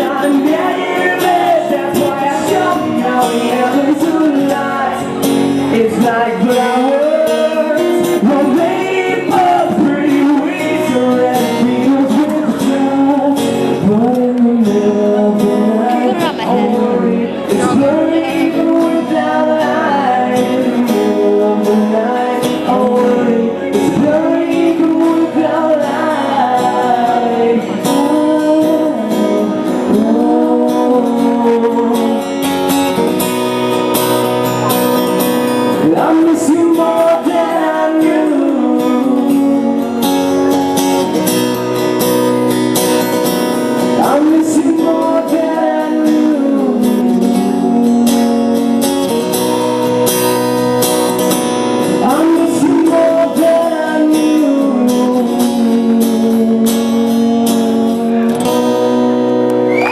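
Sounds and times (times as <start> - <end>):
person singing: 0.0 - 33.1, 35.7 - 41.2, 43.9 - 49.9, 51.8 - 59.0
acoustic guitar strumming: 0.0 - 59.9.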